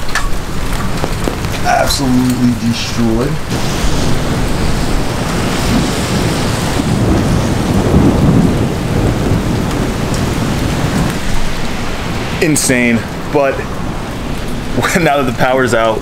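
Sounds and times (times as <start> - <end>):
gusting wind: 0.0 - 16.0
heavy rain: 0.0 - 16.0
low rumble of thunder: 0.0 - 16.0.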